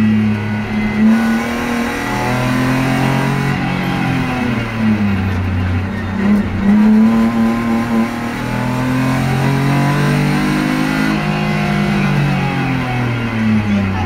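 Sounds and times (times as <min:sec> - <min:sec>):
car engine accelerating in cabin: 0:00.0 - 0:14.0.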